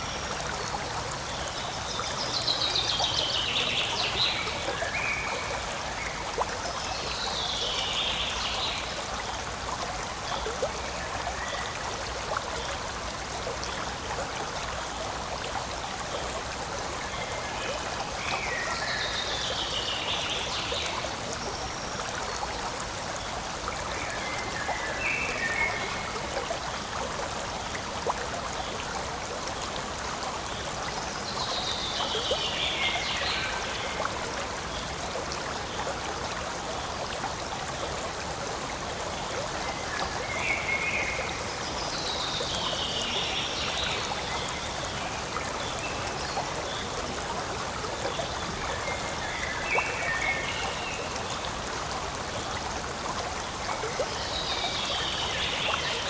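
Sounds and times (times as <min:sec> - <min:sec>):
stream flowing and trickling: 0:00.0 - 0:56.0.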